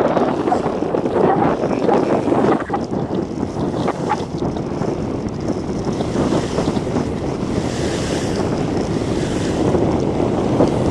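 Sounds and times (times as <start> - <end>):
water splashing around boat: 0.0 - 10.9
wind buffeting microphone: 0.0 - 10.9.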